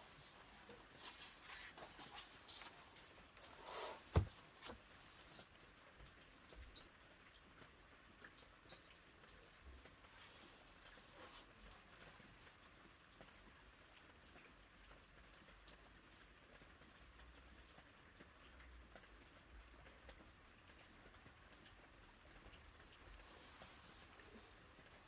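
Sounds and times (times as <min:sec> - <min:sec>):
faint rain: 0:00.0 - 0:25.0
raindrops ticking: 0:00.0 - 0:25.0.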